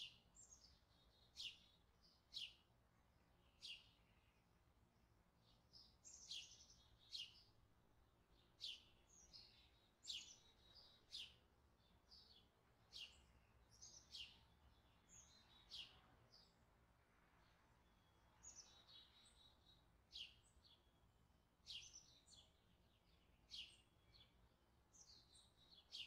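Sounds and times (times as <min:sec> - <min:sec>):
faint bird chirping: 0:00.0 - 0:04.7, 0:05.4 - 0:16.7, 0:17.4 - 0:26.0.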